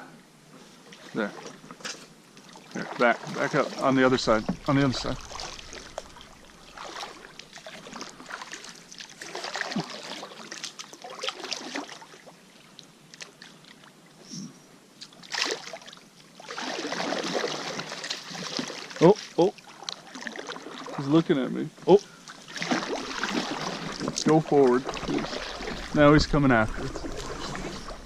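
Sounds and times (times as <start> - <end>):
paddles stroking water: 0.6 - 28.0
water splashing and dripping: 2.4 - 13.9, 15.0 - 21.2, 21.9 - 28.0.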